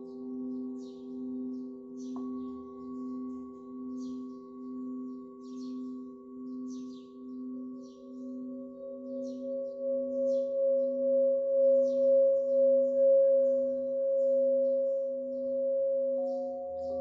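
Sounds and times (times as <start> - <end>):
small birds chirping: 0.0 - 15.6
singing bowls ringing: 0.0 - 17.0.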